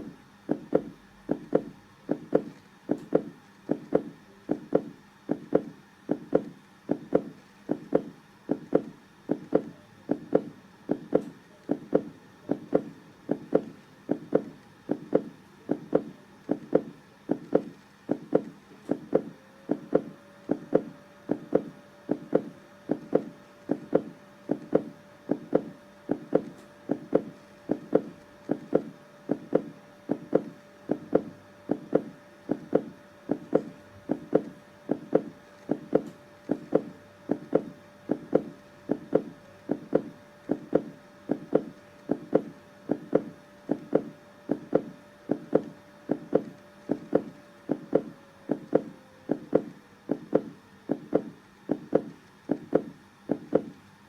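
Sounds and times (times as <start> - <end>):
heartbeat double thuds: 0.0 - 53.8
faint steady tone: 0.0 - 54.0.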